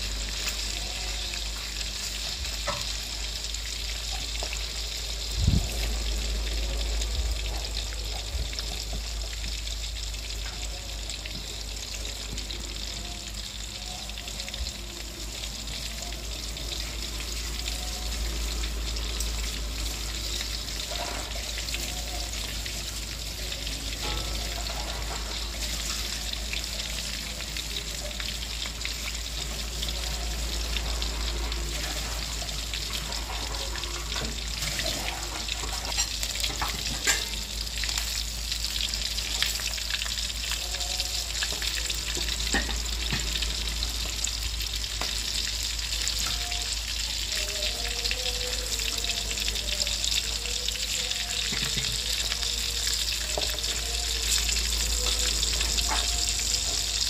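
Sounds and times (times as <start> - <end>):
fish sizzling in hot oil: 0.0 - 57.0.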